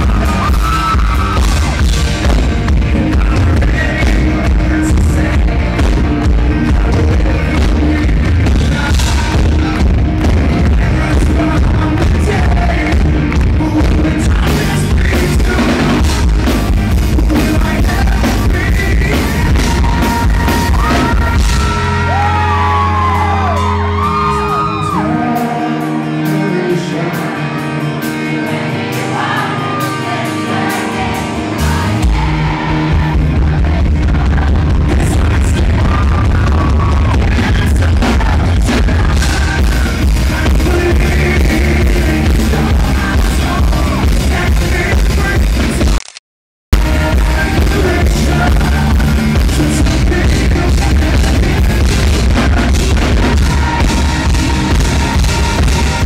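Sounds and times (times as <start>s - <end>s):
live rock band: 0.0s - 46.0s, 46.8s - 56.0s
man singing lead: 0.0s - 46.0s, 46.8s - 56.0s.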